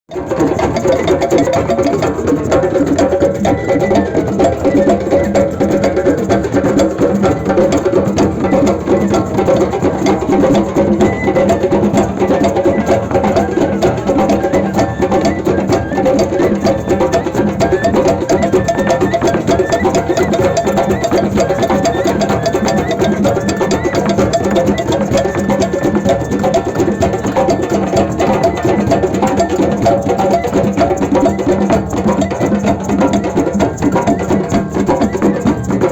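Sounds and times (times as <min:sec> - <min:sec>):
wood block beat: 0:00.1 - 0:35.9.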